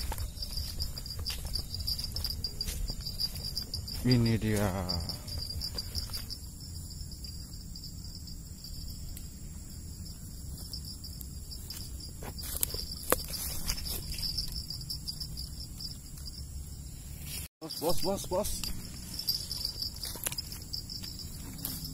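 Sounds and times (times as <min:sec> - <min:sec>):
insects chirring: 0:00.0 - 0:21.9.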